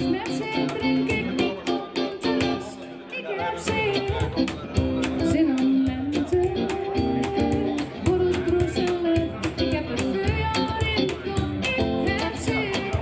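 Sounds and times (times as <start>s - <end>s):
cajon beat: 0.0s - 13.0s
electric guitar: 0.0s - 13.0s
woman singing: 0.0s - 13.0s.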